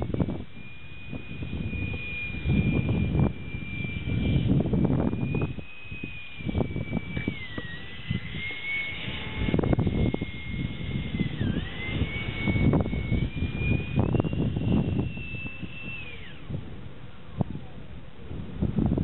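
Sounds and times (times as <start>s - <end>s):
electric fan whining overhead: 0.0s - 19.0s
wind gusts on microphone: 0.0s - 19.0s.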